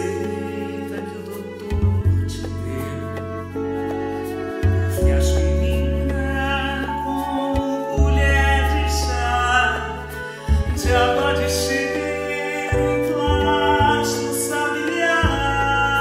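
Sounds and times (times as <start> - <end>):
bass line: 0.0 - 16.0
keyboard chords: 0.0 - 16.0.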